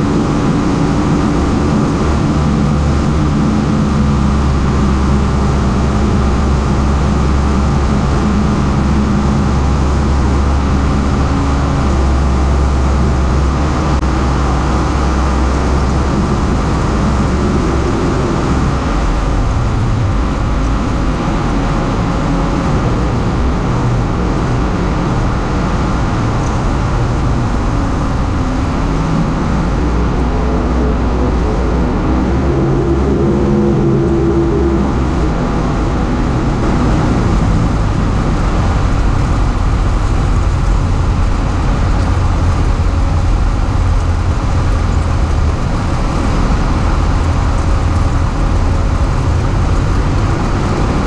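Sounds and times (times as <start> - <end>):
light aircraft engine droning: 0.0 - 51.0
rushing air noise: 0.0 - 51.0.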